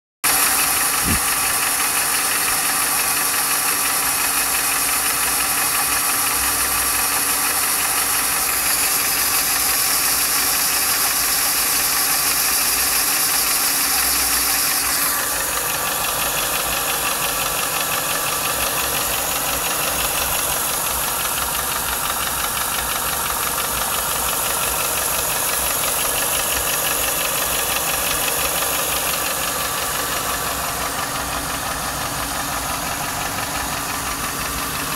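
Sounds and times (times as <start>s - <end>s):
car engine running: 0.2s - 34.9s
rapid engine tapping knock: 0.3s - 34.9s.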